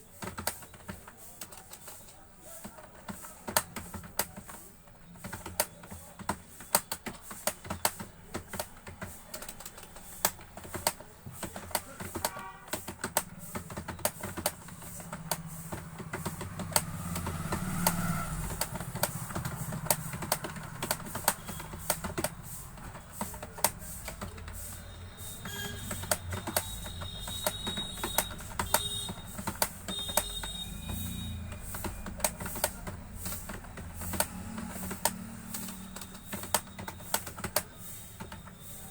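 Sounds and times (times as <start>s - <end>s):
keyboard keys clicking: 0.0s - 38.9s.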